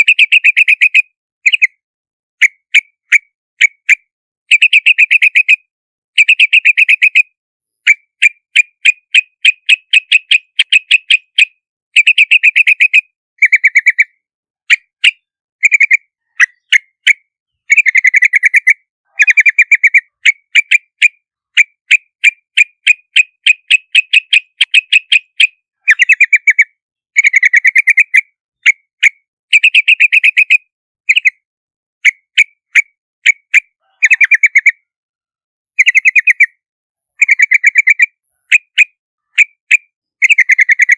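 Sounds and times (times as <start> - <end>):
bird chirping: 0.0 - 1.8, 2.4 - 31.4, 32.0 - 34.9, 35.7 - 40.9.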